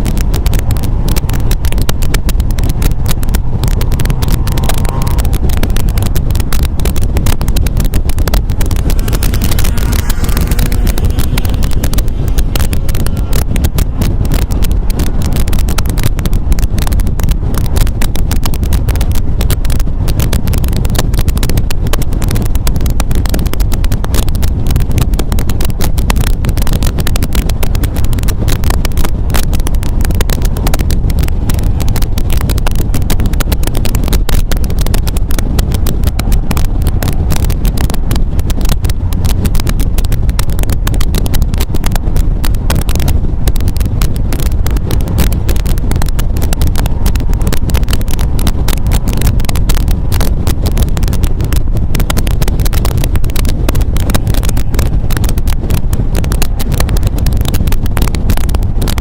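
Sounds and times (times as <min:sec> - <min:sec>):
car engine running: 0:00.0 - 0:59.0
road noise: 0:00.0 - 0:59.0
wind buffeting microphone: 0:00.0 - 0:59.0.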